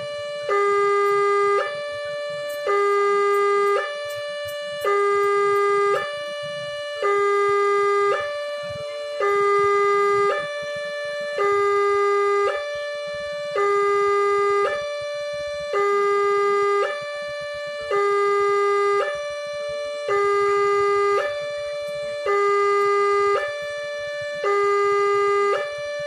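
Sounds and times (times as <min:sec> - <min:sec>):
two-tone crossing warning siren: 0:00.0 - 0:26.0.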